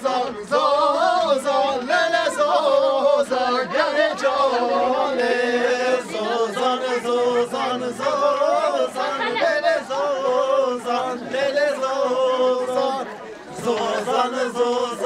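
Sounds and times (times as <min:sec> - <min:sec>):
voices singing a folk song: 0:00.0 - 0:15.0.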